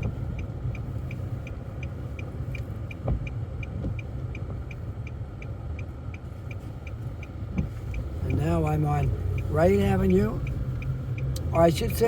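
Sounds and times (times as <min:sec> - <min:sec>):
engine and road noise: 0:00.0 - 0:12.0
turn signal clicking: 0:00.0 - 0:12.0.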